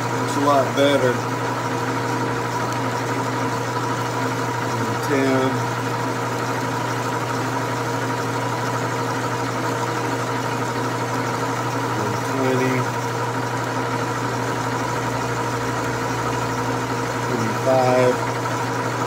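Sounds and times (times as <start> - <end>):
metal lathe cutting: 0.0 - 19.0.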